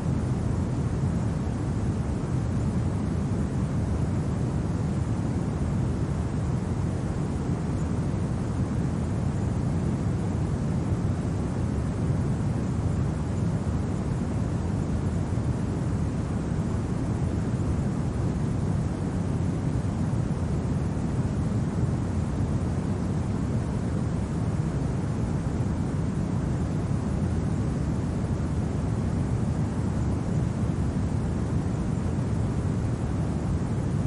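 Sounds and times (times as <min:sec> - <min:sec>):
low rumbling wind: 0:00.0 - 0:34.0.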